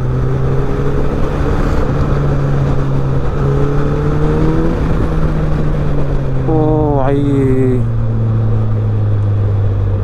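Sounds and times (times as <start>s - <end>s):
motorcycle engine cruising: 0.0s - 10.0s
wind and road noise: 0.0s - 10.0s.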